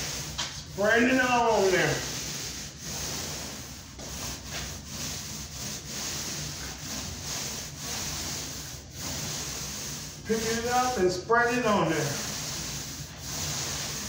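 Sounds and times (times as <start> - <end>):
paint roller swishing on drywall: 0.0 - 14.0.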